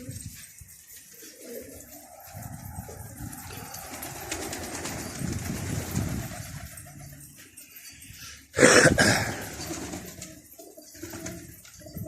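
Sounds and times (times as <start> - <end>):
pigeons cooing: 0.9 - 7.4, 8.6 - 12.0.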